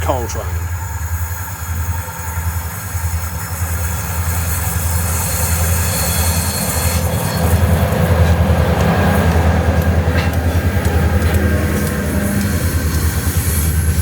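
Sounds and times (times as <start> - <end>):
diesel locomotive engine drone: 0.0 - 14.0
rail noise: 0.0 - 14.0.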